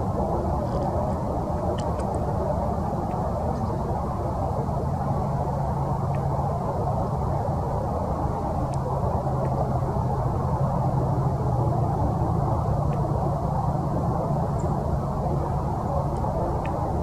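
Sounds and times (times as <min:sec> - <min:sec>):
distant road traffic rumble: 0:00.0 - 0:17.0
low hum: 0:00.0 - 0:17.0.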